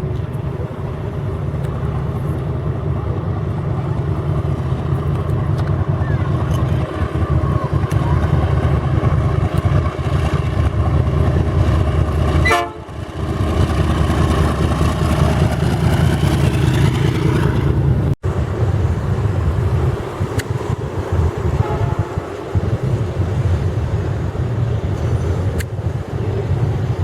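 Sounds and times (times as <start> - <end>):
train rumbling past: 0.0 - 27.0.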